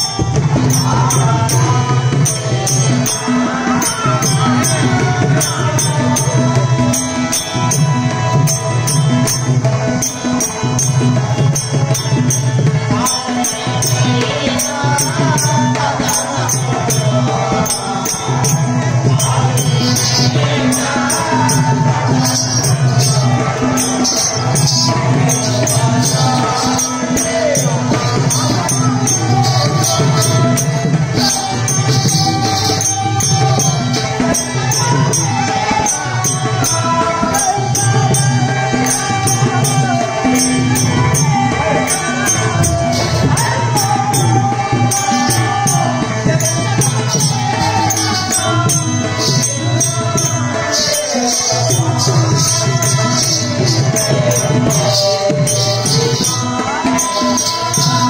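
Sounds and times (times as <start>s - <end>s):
metallic jingling percussion: 0.0s - 58.0s
person singing: 0.0s - 58.0s.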